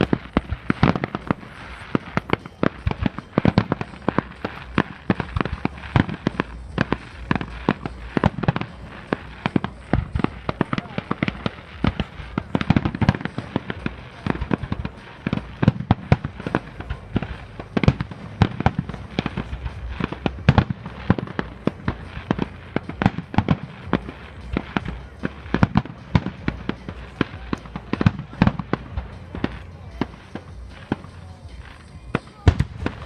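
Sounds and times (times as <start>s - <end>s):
fireworks bangs and cracks: 0.0s - 33.0s.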